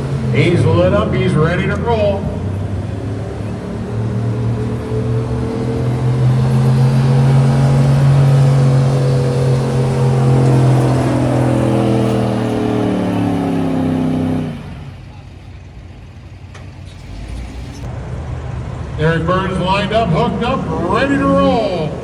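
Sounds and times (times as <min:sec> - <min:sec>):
pickup truck engine under load: 0:00.0 - 0:22.0.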